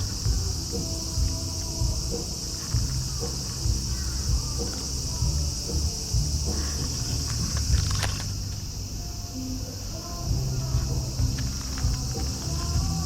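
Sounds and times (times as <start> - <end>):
high-pitched insect chorus: 0.0 - 13.0
low rumble: 0.0 - 13.0.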